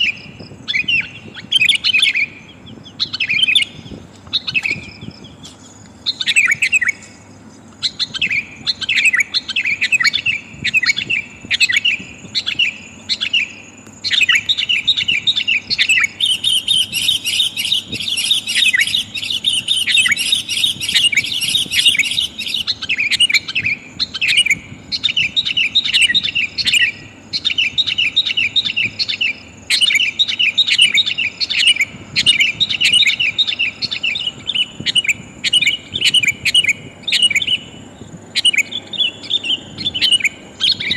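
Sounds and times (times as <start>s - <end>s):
bulbul chattering calls: 0.0s - 40.9s.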